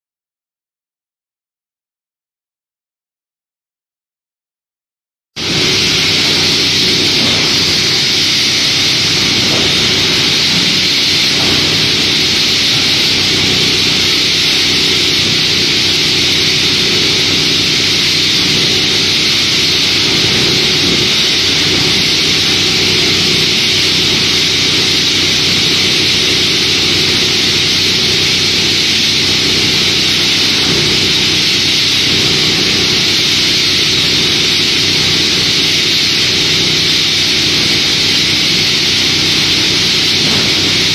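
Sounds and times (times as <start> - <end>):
low machine hum: 5.4 - 40.9
plastic granulator hissing: 5.4 - 40.9.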